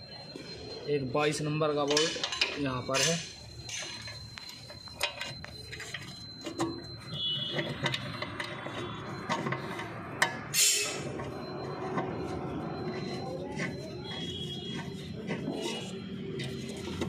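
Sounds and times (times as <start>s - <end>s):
spanner scraping on bolts: 1.8s - 17.0s.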